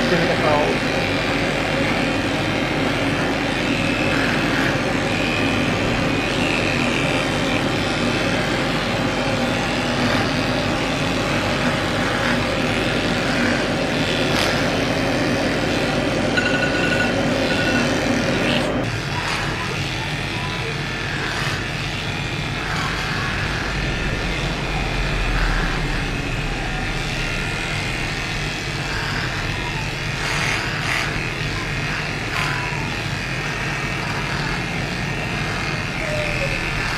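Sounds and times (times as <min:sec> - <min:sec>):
electric clippers buzzing: 0:00.0 - 0:36.9.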